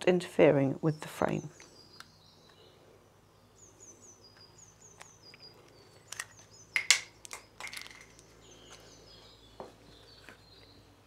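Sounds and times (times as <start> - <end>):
bird chirping: 0.6 - 11.0.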